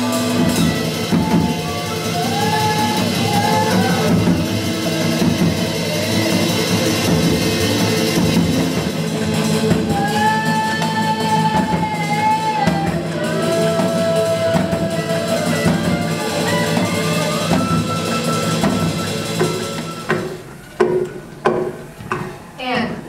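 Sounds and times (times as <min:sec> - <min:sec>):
drum kit playing: 0:00.0 - 0:22.5.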